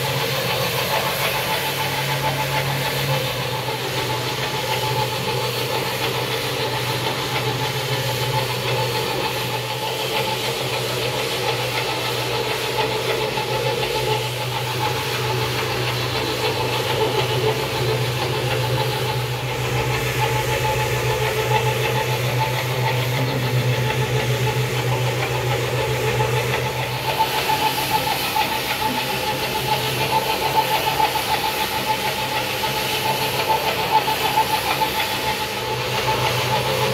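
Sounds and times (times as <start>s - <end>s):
floor scrubber motor hum: 0.0s - 36.9s.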